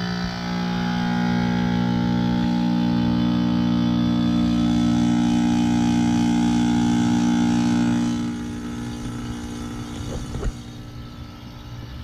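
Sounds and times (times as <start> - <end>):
heat pump humming: 0.0 - 12.0.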